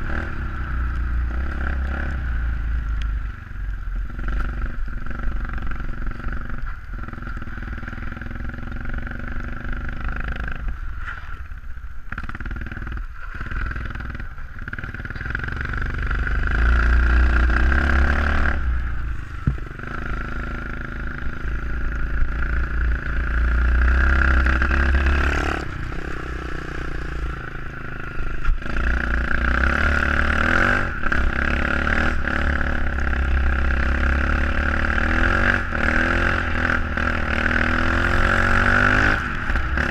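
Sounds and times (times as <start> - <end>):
motorbike engine revving: 0.0 - 3.3, 3.9 - 11.1, 12.1 - 39.9.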